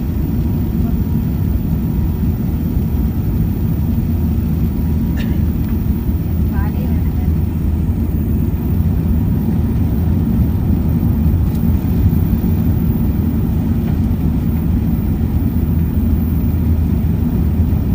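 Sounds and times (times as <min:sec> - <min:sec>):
airplane engine and airflow rumble: 0:00.0 - 0:17.9.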